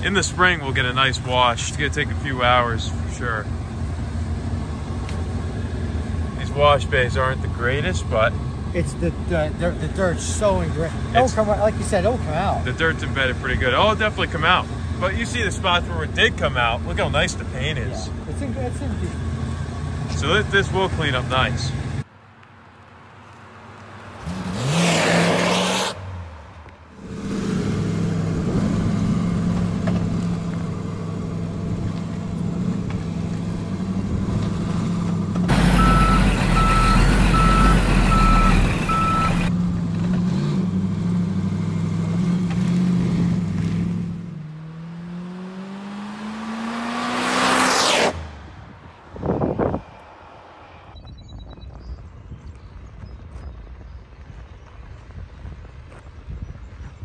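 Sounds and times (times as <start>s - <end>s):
car engine driving by: 0.0s - 51.0s.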